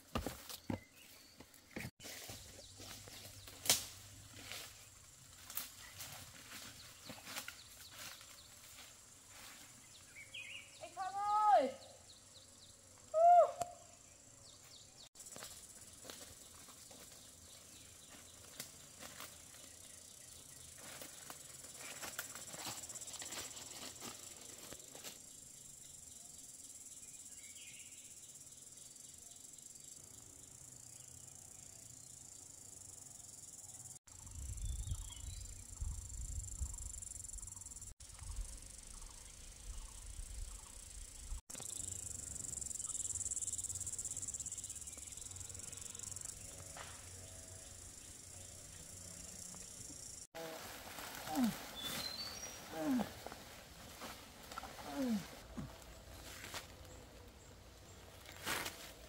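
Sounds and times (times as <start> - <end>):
high-pitched insect chorus: 2.1 - 59.0.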